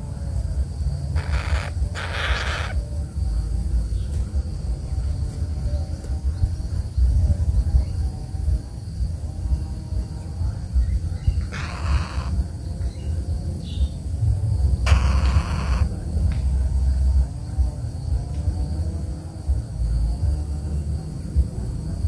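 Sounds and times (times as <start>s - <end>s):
insect buzzing: 0.0s - 22.0s
strong low rumble: 2.7s - 22.0s.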